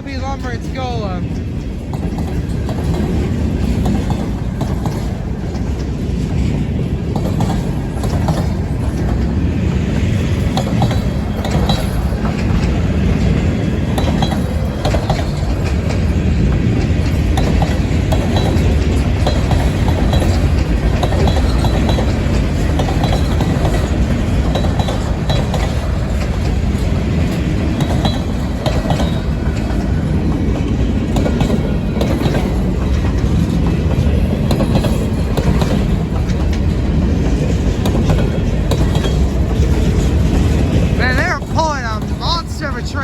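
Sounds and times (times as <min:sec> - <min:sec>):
steel wheels rumbling on rail: 0:00.0 - 0:43.0
wheels clacking over rail joints: 0:00.0 - 0:43.0.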